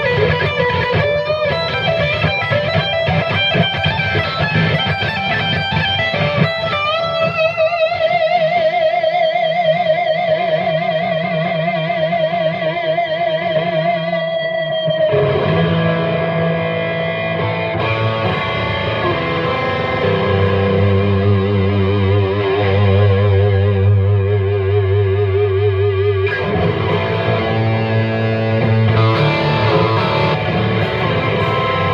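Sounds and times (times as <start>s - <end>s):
distorted electric guitar: 0.0s - 31.9s
guitar feedback: 0.0s - 31.9s.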